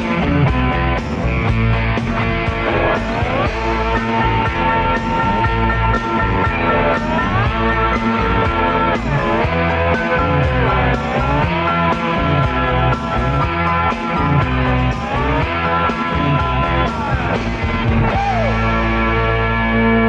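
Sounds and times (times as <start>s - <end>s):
steady drum beat: 0.0s - 18.7s
bass line: 0.0s - 20.0s
electric guitar lead: 0.0s - 20.0s.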